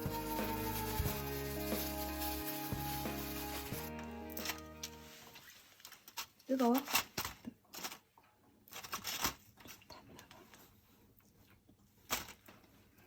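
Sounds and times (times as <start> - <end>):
sweet potato rustling and crinkling: 0.0 - 11.0.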